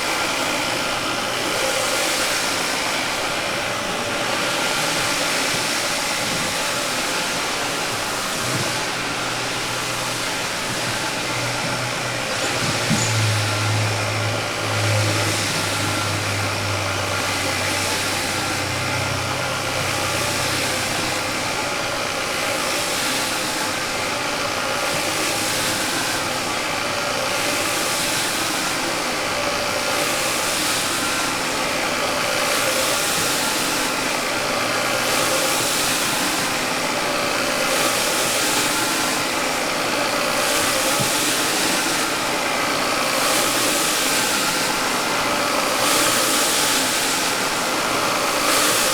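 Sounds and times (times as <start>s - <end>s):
rug cleaning machine engine running: 0.0s - 48.9s.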